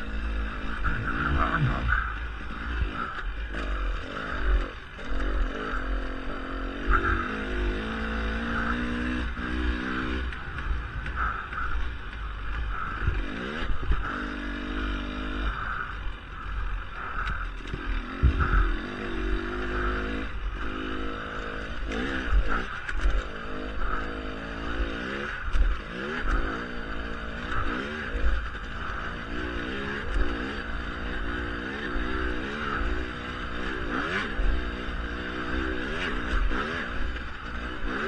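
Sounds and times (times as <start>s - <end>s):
dirt bike engine revving: 0.0s - 38.0s
steady low rumble: 0.0s - 38.0s.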